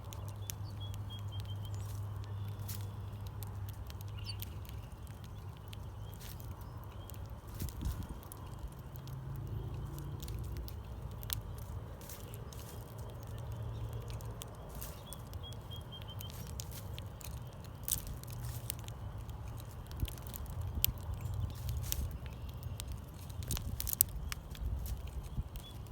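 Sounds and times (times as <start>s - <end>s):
bird chirping: 0.0s - 25.9s
small clicks and taps: 0.0s - 25.9s
steady low rumble: 0.0s - 25.9s.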